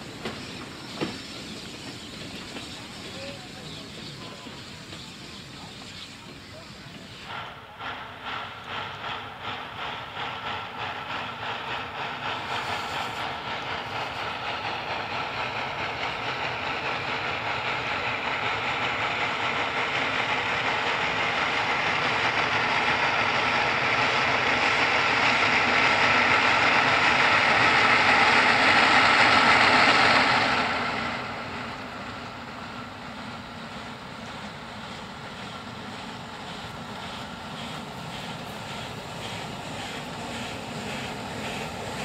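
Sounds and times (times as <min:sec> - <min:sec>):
steam locomotive chuffing: 0:00.0 - 0:42.0.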